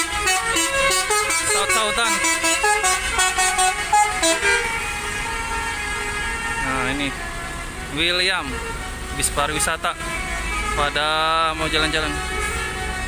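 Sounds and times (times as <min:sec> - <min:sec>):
musical air horns playing tune: 0:00.0 - 0:13.0.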